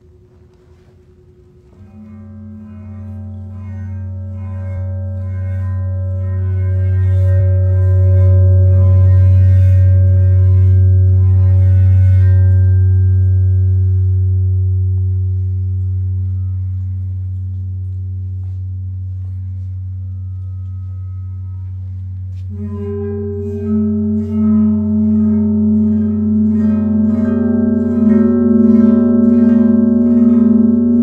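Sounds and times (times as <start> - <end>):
metal plate ringing deep hum: 0.0 - 31.0.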